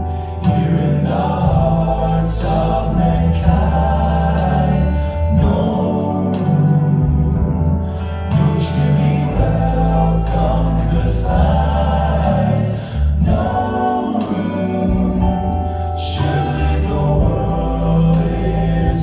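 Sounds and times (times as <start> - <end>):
instrumental accompaniment with bass: 0.0 - 19.0
vocal group singing in harmony: 0.0 - 19.0.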